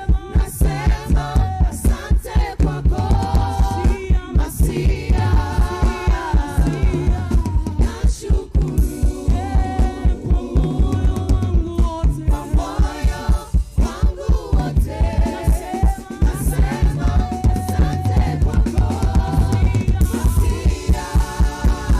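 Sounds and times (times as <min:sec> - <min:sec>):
fast bass drum beat: 0:00.0 - 0:21.9
gospel singers with band: 0:00.0 - 0:21.9.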